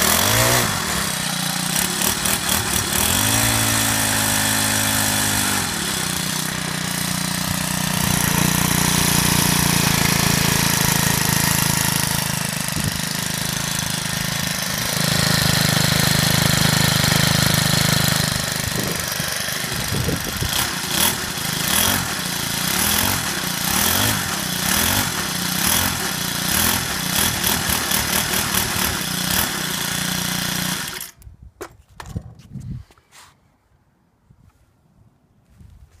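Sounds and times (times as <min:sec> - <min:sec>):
small gas engine running: 0:00.0 - 0:31.2.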